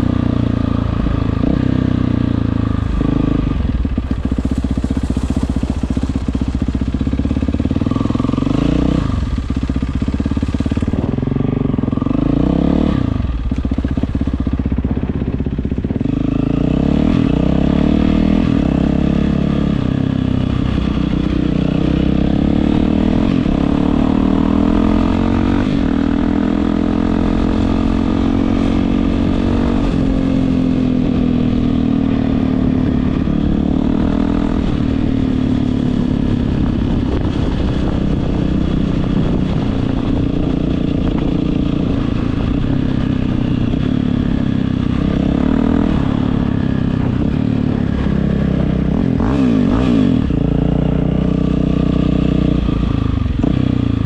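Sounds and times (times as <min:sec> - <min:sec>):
dirt bike engine revving: 0:01.4 - 0:53.9.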